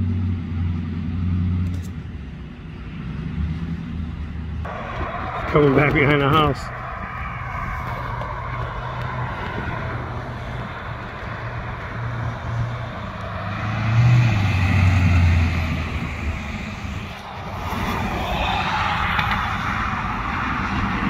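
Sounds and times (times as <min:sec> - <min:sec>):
road traffic: 0:00.0 - 0:21.0
truck exhaust driving past: 0:00.0 - 0:21.0.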